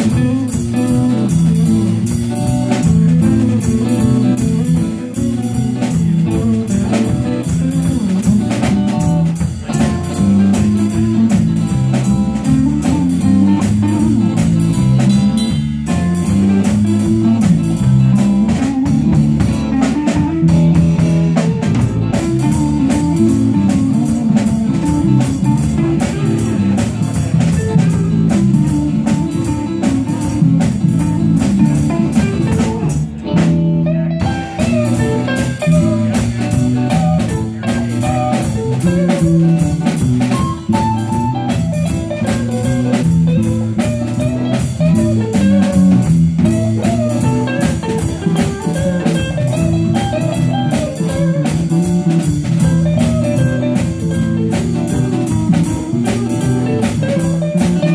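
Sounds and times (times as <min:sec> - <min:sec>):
drum kit: 0:00.0 - 0:57.9
electric guitar: 0:00.0 - 0:57.9.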